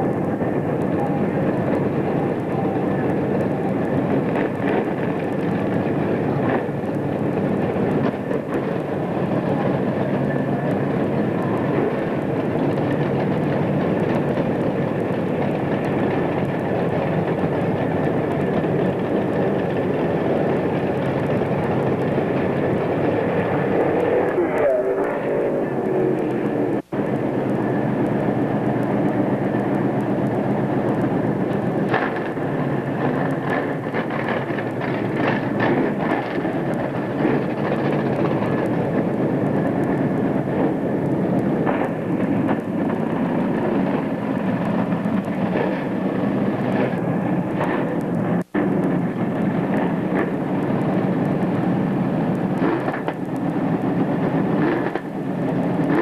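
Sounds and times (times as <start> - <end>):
engine revs: 0.0 - 56.0
race car engines running: 0.0 - 56.0.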